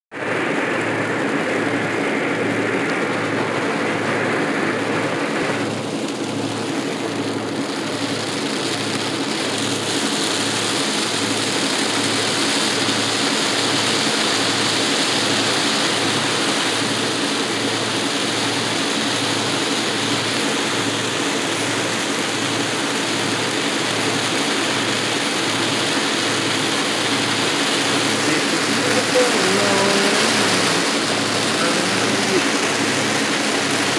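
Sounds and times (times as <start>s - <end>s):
tyre and engine road noise: 0.1s - 33.9s
rain hissing on windshield: 0.2s - 33.9s.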